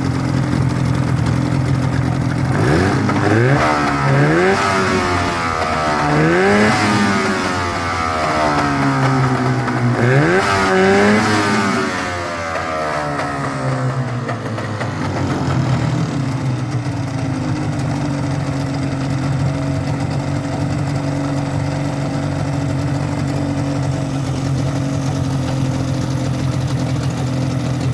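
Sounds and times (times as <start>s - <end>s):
outboard motor idling: 0.0s - 27.9s.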